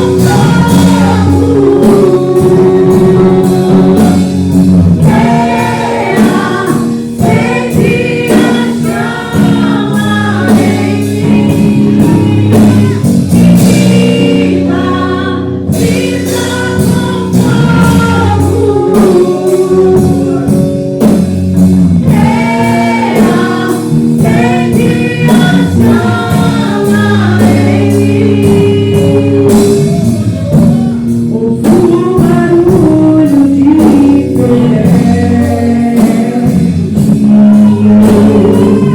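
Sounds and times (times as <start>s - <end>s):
people singing: 0.0s - 38.9s
praise band playing: 0.0s - 38.9s.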